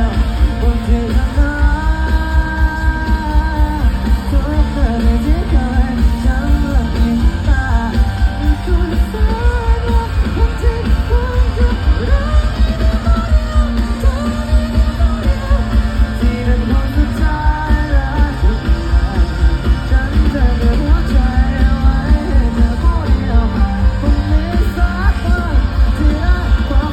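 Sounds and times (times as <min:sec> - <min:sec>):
pop-rock band playing live: 0:00.0 - 0:26.9
singing: 0:00.0 - 0:26.9.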